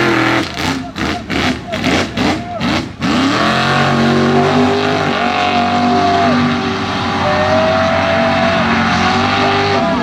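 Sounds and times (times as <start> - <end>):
truck engine at high revs: 0.0 - 10.0.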